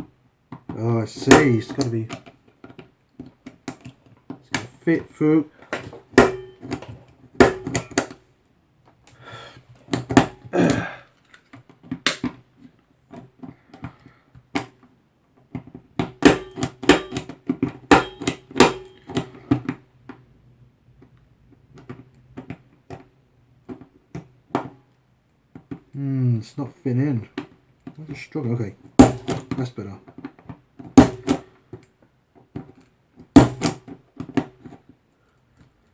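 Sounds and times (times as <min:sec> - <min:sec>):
plastic parts clicking and tapping: 0:00.0 - 0:20.3, 0:20.9 - 0:26.0, 0:27.2 - 0:35.9.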